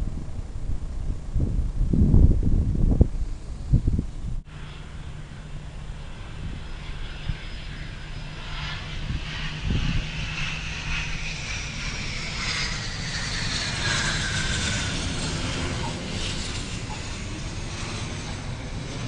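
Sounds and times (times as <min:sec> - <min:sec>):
airplane engine whine: 0:00.0 - 0:19.0
low rumble: 0:00.0 - 0:19.0.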